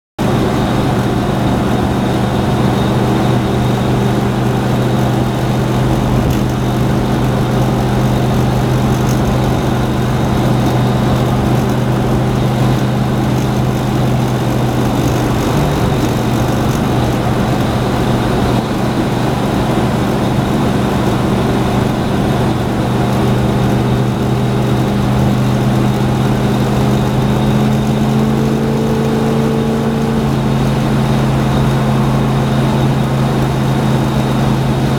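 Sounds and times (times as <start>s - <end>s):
car engine running: 0.2s - 34.9s
road noise: 0.2s - 34.9s.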